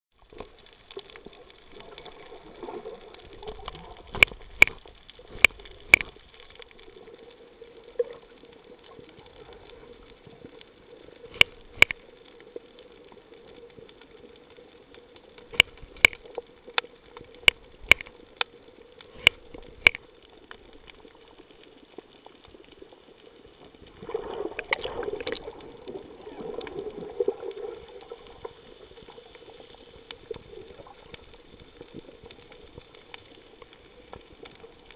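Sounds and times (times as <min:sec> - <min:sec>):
underwater hum and water noise: 0:00.1 - 0:34.9
water bubbling and gurgling: 0:00.1 - 0:34.9.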